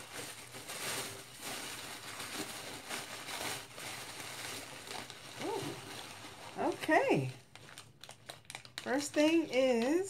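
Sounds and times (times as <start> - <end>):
packaging rustling and crinkling: 0.0 - 9.9.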